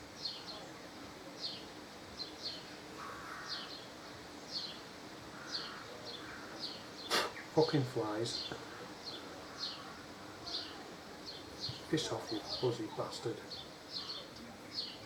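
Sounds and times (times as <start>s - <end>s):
small bird chirping: 1.4s - 15.0s.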